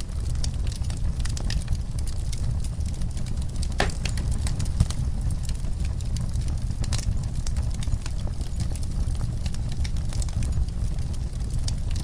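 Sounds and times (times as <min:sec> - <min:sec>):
steady low rumble: 0:00.0 - 0:12.0
wood fire crackling and popping: 0:00.0 - 0:12.0.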